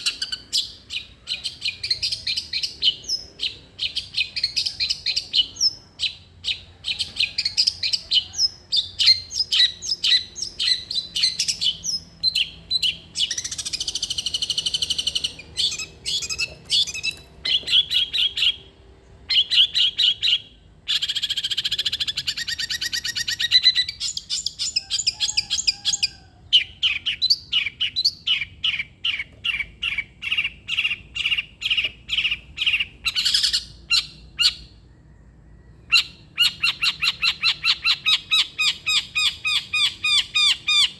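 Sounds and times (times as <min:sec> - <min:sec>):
bird sharp repeated chirps: 0:00.0 - 0:25.8, 0:26.6 - 0:40.9.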